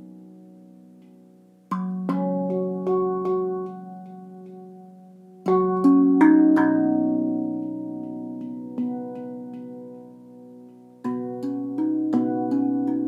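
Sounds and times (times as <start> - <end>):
ringing handpan notes: 1.7 - 13.0.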